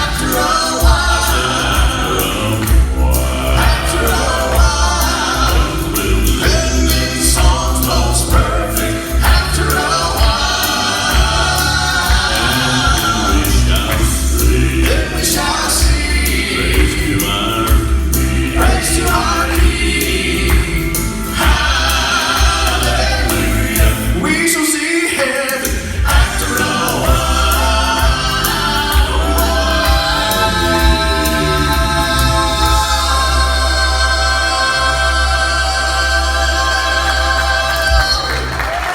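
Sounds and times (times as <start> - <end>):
bass accompaniment: 0.0 - 24.6, 25.6 - 38.9
vocal quartet singing in harmony: 0.0 - 38.9.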